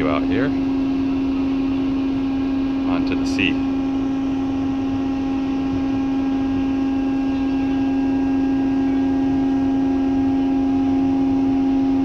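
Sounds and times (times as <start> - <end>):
ship engine hum: 0.0 - 12.0.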